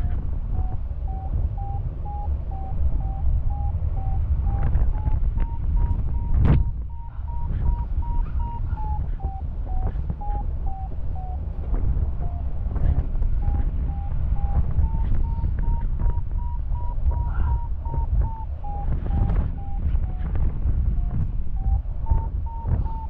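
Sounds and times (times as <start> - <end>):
variometer short beeps: 0.0 - 11.4, 12.2 - 20.2, 20.9 - 23.0
wind buffeting microphone: 0.0 - 23.0.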